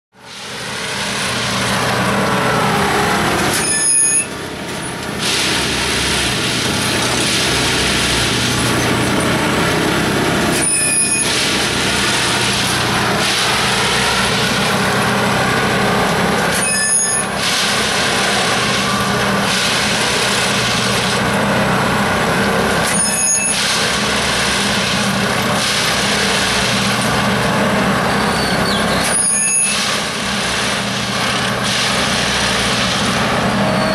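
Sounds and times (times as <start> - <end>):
machine engine running: 0.2 - 33.9
loud mechanical clattering: 0.3 - 33.9.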